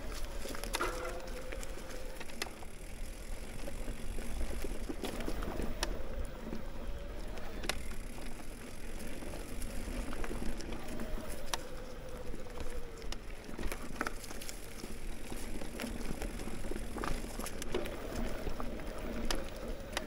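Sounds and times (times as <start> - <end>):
bike clicks and knocks: 0.0 - 20.0
faint wavering hum: 0.0 - 20.0.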